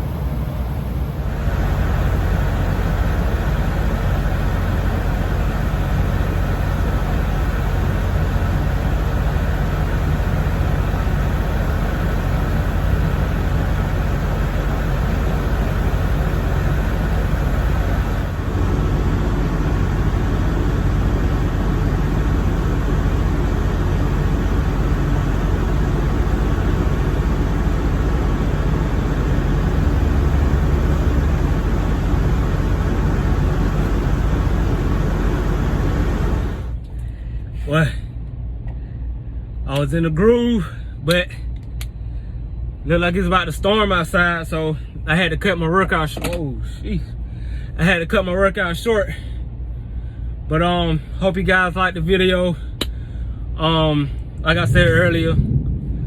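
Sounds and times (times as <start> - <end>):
vehicle engines idling: 0.0 - 56.0.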